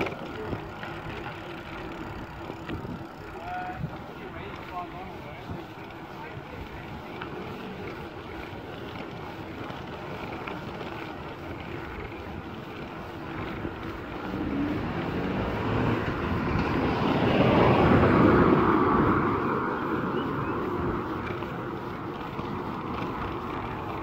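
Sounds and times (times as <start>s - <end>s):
bicycle rolling on road: 0.0s - 24.0s
car passing: 0.0s - 24.0s
wind buffeting microphone: 0.0s - 24.0s.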